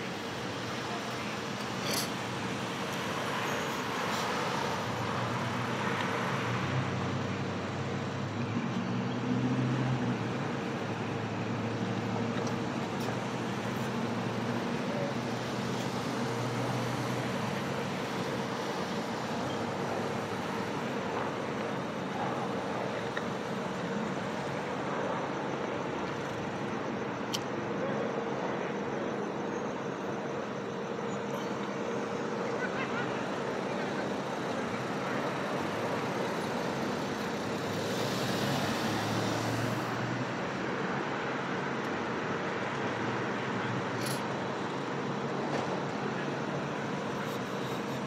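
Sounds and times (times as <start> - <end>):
cars idling and moving: 0.0 - 48.0
vehicle engine hum: 0.0 - 48.0.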